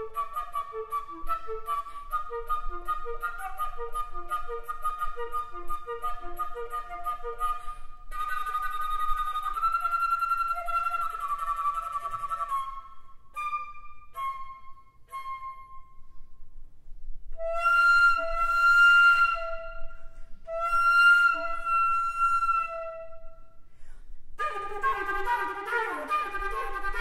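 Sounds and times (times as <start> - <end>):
solo flute playing: 0.0 - 16.5, 17.3 - 23.7, 24.4 - 27.0.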